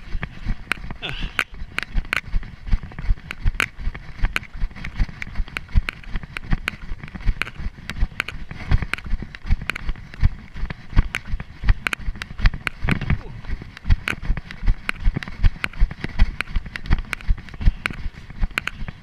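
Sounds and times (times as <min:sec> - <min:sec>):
running footsteps on dry leaves: 0:00.0 - 0:19.0.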